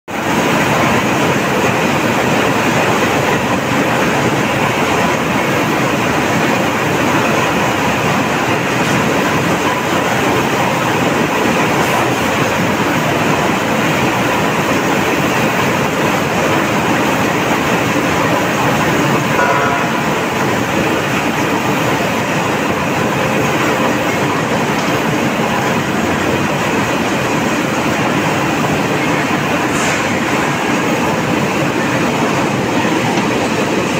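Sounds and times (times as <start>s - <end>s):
rolling mill din: 0.1s - 33.9s.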